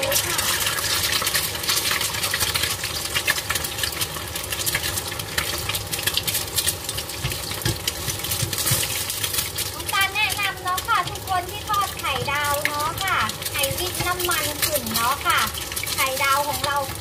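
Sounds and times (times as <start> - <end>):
eggs sizzling in hot oil: 0.0 - 17.0.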